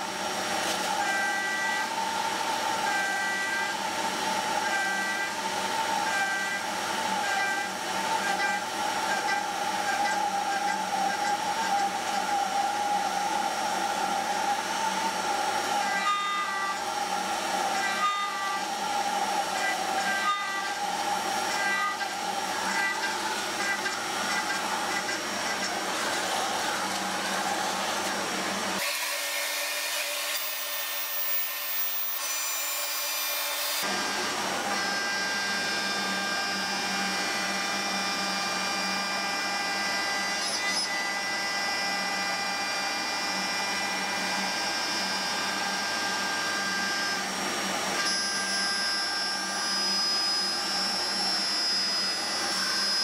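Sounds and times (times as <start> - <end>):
milling machine cutting steel: 0.2 - 53.0.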